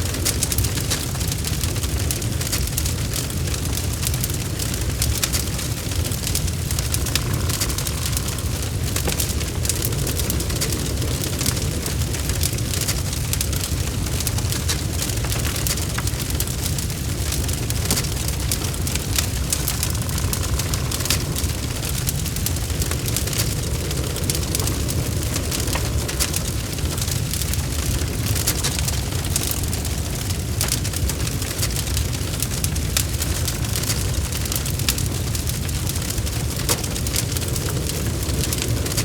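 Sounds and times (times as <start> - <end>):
fire flames rumbling: 0.0 - 39.0
wood crackling and popping: 0.0 - 39.0.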